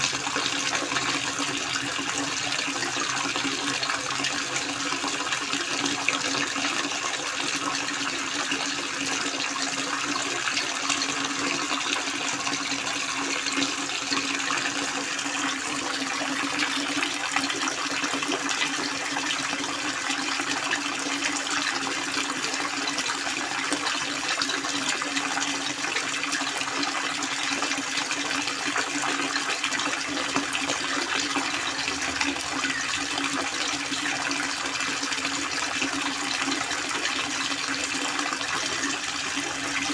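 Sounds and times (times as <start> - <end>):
water splashing from a spout: 0.0 - 39.9.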